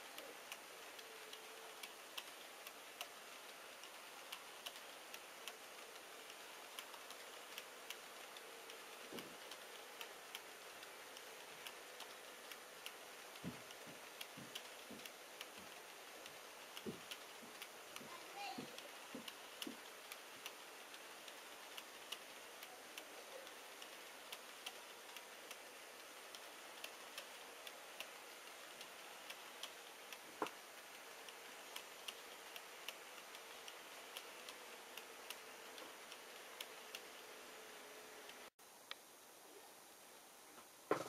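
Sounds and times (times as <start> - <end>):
model train wheels clicking: 0.0 - 39.0
faint steady hum: 0.0 - 41.0.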